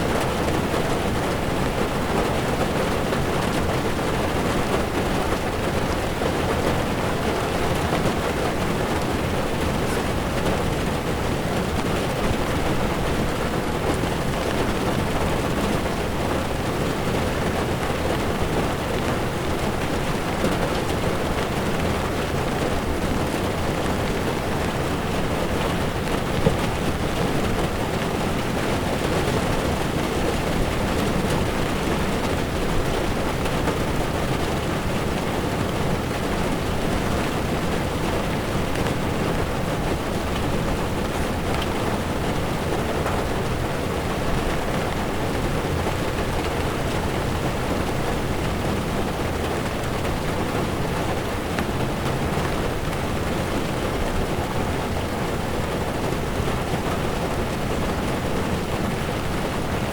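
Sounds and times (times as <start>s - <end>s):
heavy rain on a car: 0.0s - 59.9s.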